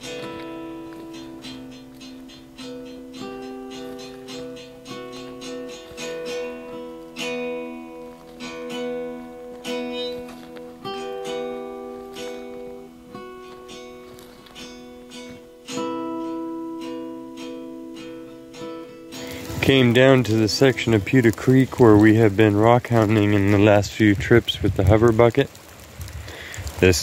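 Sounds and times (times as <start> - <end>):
acoustic guitar picking: 0.0 - 25.7.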